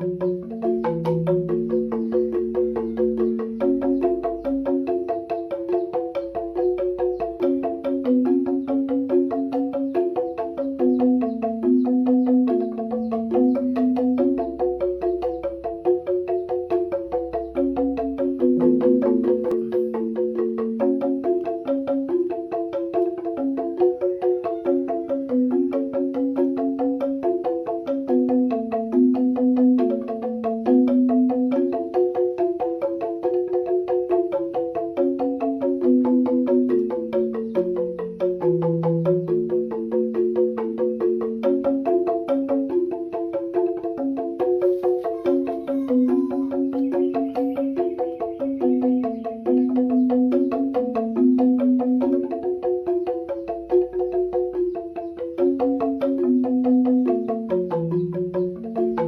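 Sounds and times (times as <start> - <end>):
melodic tune with mallet percussion: 0.0 - 59.0.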